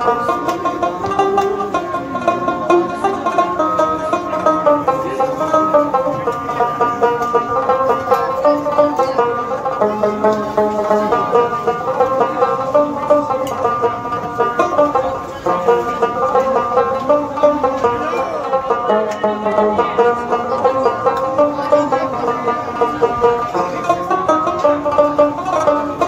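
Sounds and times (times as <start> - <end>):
plucked string instrumental music: 0.0 - 26.0.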